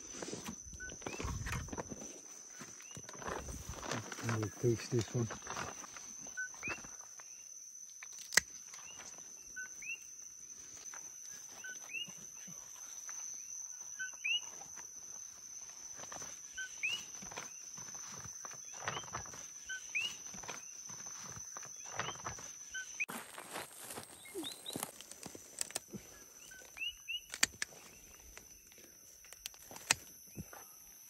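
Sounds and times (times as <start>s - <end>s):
steady high insect-like tone: 0.0s - 31.0s.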